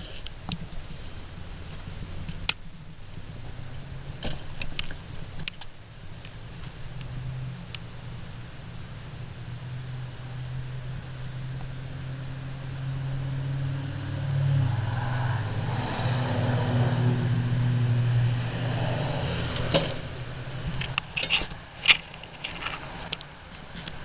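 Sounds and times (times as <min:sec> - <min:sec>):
mower engine humming: 0:00.0 - 0:24.0.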